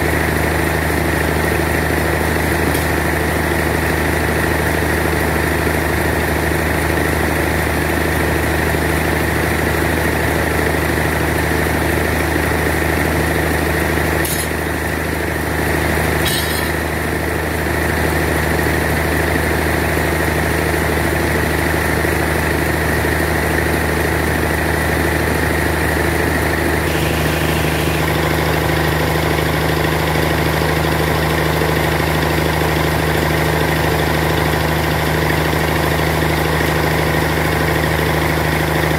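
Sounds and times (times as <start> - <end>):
sawmill engine idling: 0.0 - 38.9.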